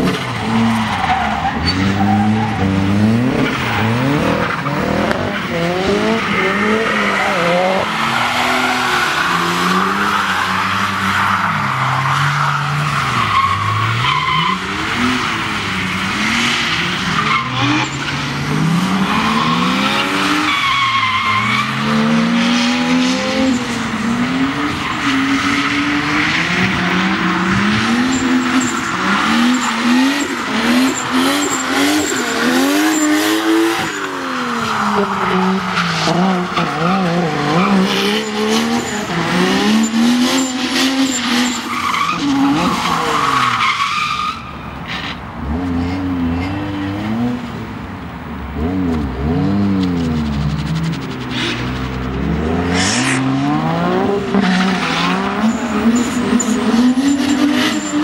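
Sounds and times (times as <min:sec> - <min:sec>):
car engines revving: 0:00.0 - 0:58.0
tyres skidding: 0:00.0 - 0:58.0.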